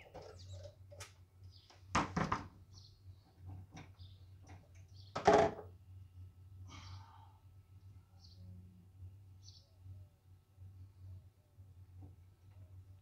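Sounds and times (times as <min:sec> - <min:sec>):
steady low hum: 0:02.5 - 0:13.0.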